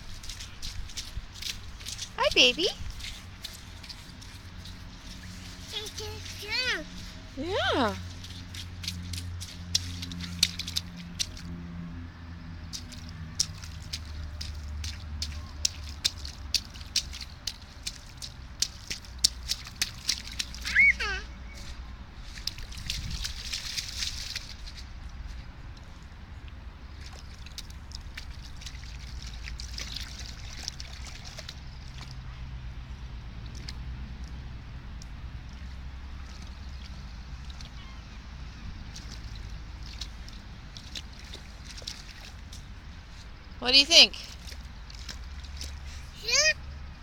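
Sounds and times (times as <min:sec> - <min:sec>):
splashes in shallow puddles: 0:00.0 - 0:47.0.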